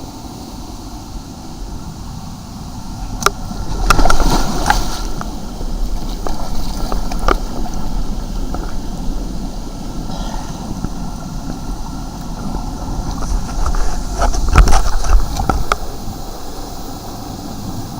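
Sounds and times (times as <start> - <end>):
wind on microphone: 0.0 - 17.9.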